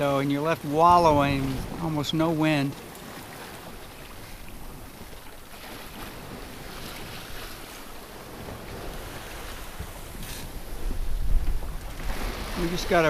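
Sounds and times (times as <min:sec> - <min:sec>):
water swishing past: 0:00.0 - 0:13.0
wind on microphone: 0:00.7 - 0:02.4, 0:03.1 - 0:13.0.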